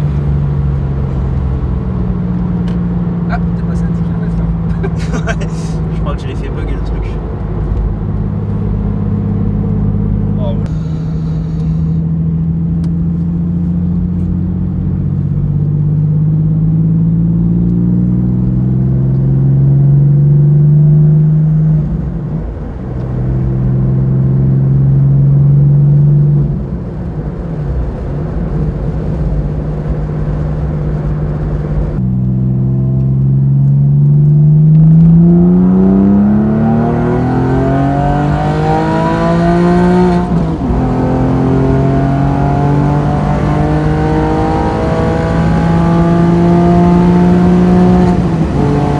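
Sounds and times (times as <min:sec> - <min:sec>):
car engine revving through gears: 0:00.0 - 0:22.0, 0:23.0 - 0:26.6, 0:31.0 - 0:48.9.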